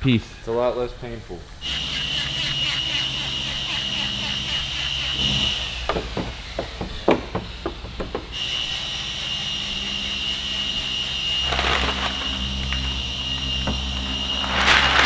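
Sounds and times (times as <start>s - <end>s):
high-pitched hum: 1.3s - 15.0s
spray hiss: 1.5s - 13.6s.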